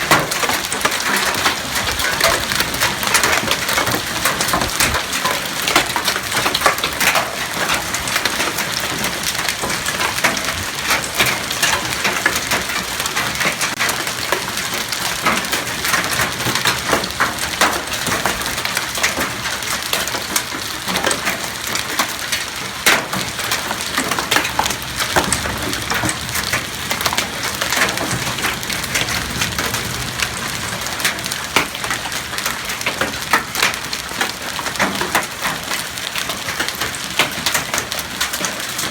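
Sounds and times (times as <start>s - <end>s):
hail clattering on hard surfaces: 0.0s - 38.9s
hail cracks: 0.0s - 38.9s.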